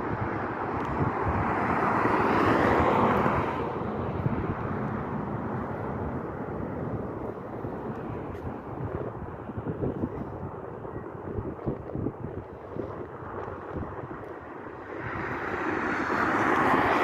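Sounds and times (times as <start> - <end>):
steady low rumble: 3.0 - 17.0.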